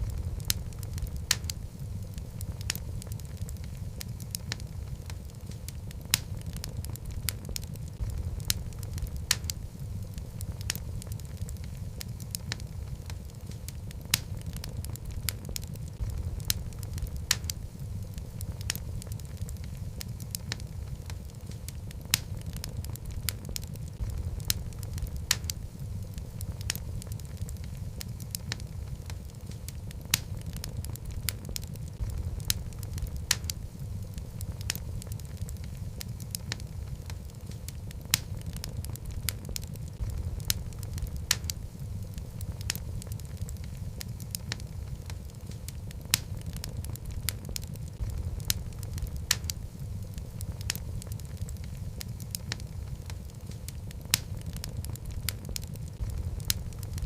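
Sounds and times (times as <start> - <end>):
fire crackling and popping: 0.0 - 57.0
logs burning in a fireplace: 0.0 - 57.0.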